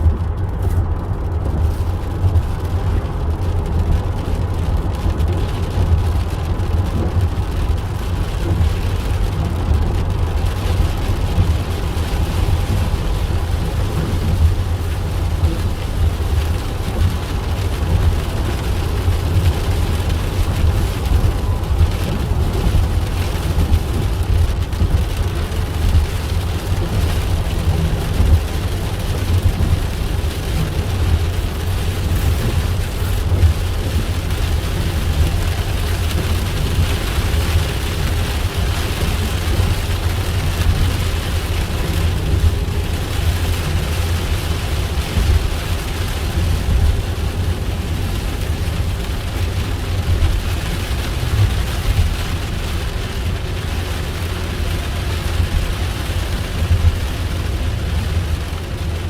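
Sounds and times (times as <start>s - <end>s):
car driving low rumble: 0.0s - 59.0s
rain hissing on vehicle: 0.0s - 59.0s.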